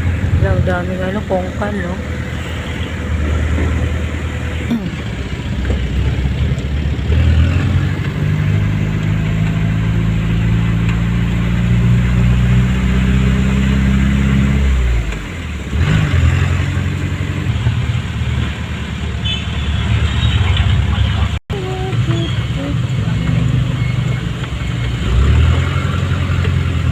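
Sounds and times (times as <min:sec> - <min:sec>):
vehicle engine revving: 0:00.0 - 0:26.9.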